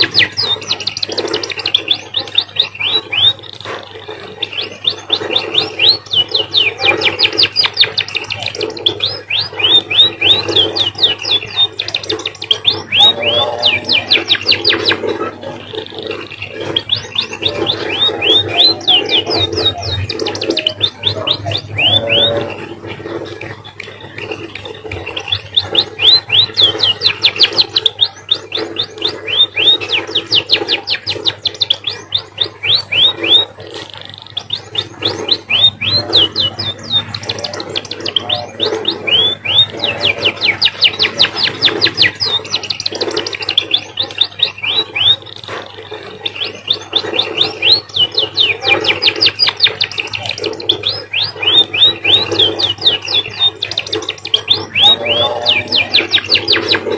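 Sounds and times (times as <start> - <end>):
finch singing trills: 0.0 - 56.9.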